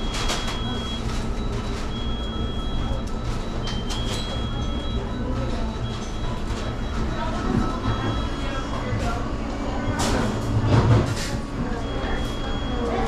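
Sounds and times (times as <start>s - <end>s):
kitchen timer beeps: 0.0s - 10.9s, 11.6s - 13.0s.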